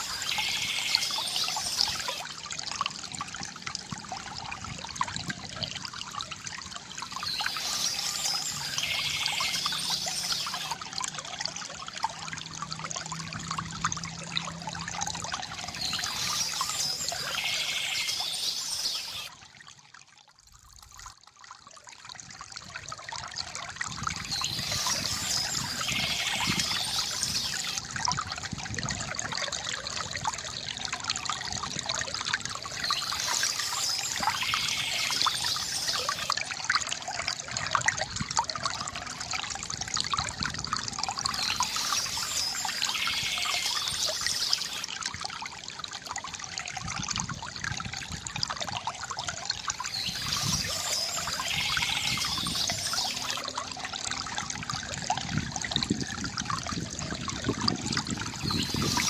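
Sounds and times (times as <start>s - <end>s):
water gurgling from bamboo fountain: 0.0s - 59.0s.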